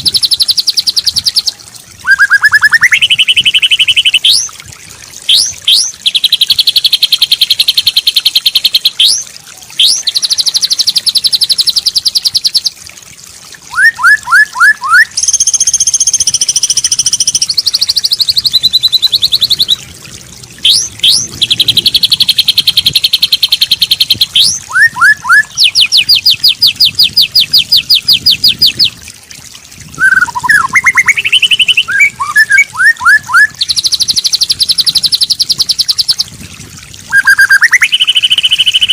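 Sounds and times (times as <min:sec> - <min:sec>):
recorded songbird song: 0:00.0 - 0:04.6, 0:05.2 - 0:12.8, 0:13.7 - 0:19.9, 0:20.5 - 0:29.0, 0:30.0 - 0:36.4, 0:37.0 - 0:38.9.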